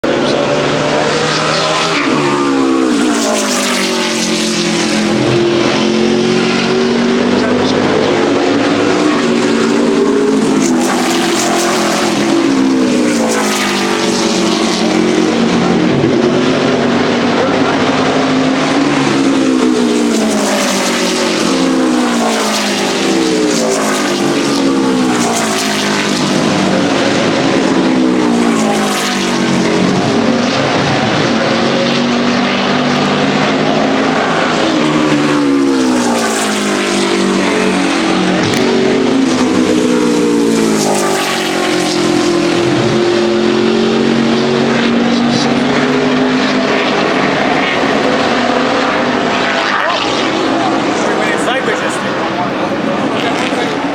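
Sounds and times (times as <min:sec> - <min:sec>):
racing truck engines: 0:00.0 - 0:53.9.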